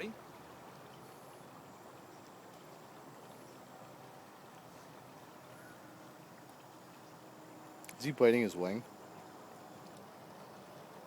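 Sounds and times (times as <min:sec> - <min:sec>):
faint creek water rushing: 0:00.0 - 0:11.0.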